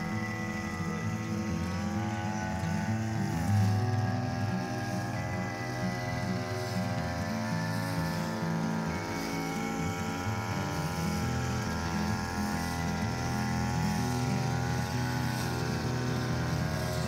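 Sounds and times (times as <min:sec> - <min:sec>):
brush cutter engine cutting grass: 0:00.0 - 0:17.0.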